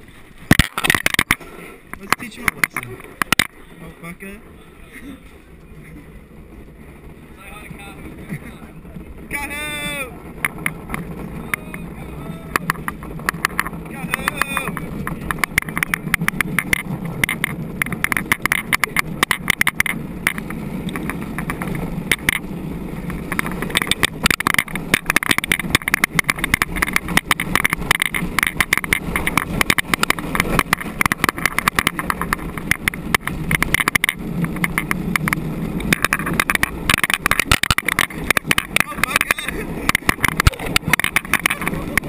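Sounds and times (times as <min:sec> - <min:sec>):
cart rolling on concrete: 0:00.0 - 0:42.0
wheels and frame rattling: 0:00.0 - 0:42.0.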